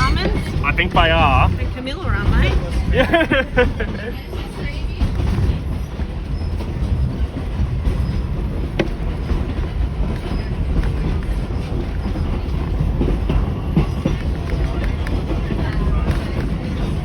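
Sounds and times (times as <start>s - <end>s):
rail carriage wheels rumbling: 0.0s - 17.0s.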